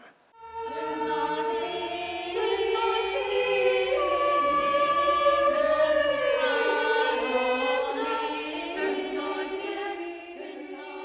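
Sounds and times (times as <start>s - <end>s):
choir singing held chords: 0.3s - 11.0s.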